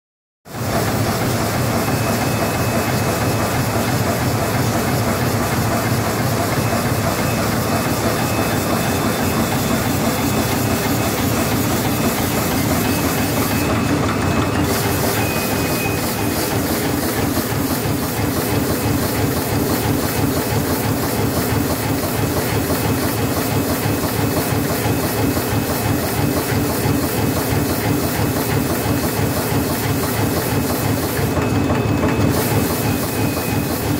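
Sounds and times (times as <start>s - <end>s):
machine clatter: 0.5s - 33.9s
machine hiss: 0.5s - 33.9s.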